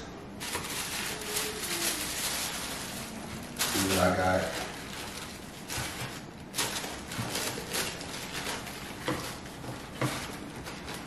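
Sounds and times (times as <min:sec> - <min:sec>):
tissue paper rustling: 0:00.4 - 0:11.0.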